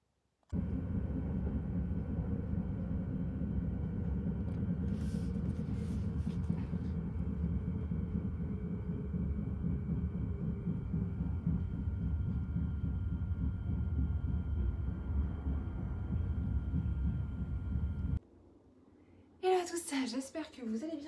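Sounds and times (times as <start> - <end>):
train rumble inside carriage: 0.6 - 18.2.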